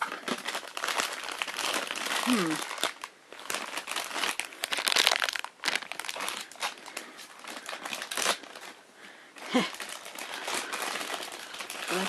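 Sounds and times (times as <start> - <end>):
packaging crinkling and rustling: 0.0 - 8.8, 9.4 - 12.0.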